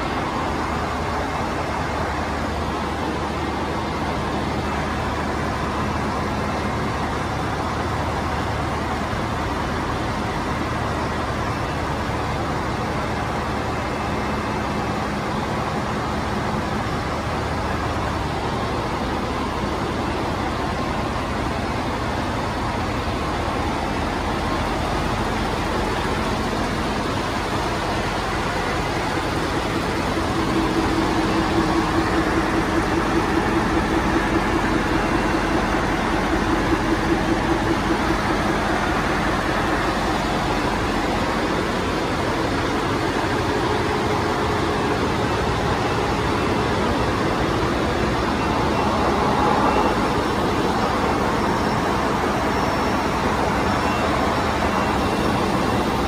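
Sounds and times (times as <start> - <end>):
diesel engine machinery din: 0.0 - 56.0.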